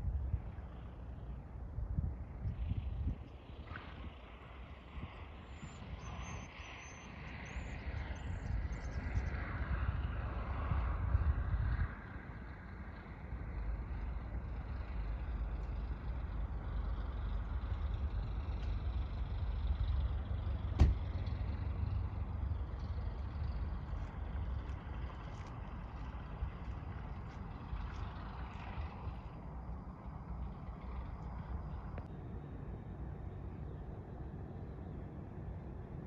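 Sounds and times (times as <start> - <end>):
wind buffeting microphone: 0.0 - 6.2, 7.8 - 32.1
distant light aircraft engine: 0.0 - 36.0.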